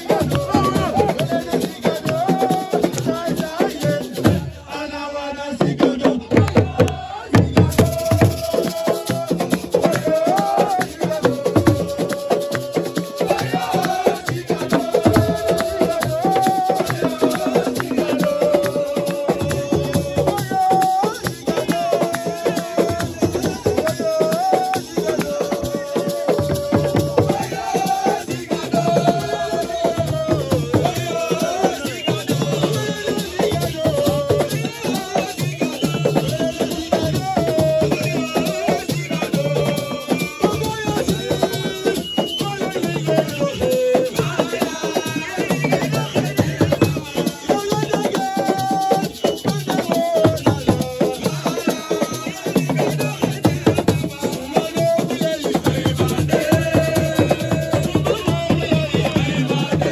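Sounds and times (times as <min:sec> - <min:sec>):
fast drum strikes: 0:00.0 - 0:04.6, 0:05.5 - 0:59.9
shakers: 0:00.0 - 0:04.6, 0:06.6 - 0:59.9
hand percussion rhythm: 0:00.0 - 0:04.8, 0:05.5 - 0:59.9.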